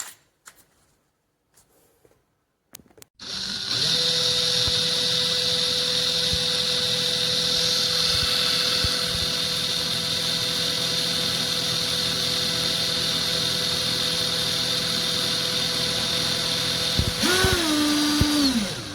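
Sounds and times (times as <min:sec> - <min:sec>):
drill motor whining: 0:03.2 - 0:18.9.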